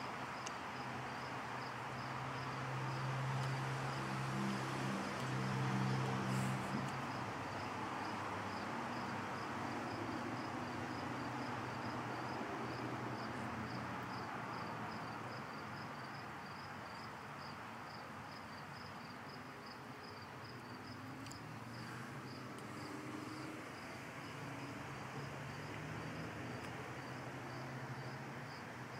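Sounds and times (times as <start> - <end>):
cricket chirping: 0.3 - 28.9.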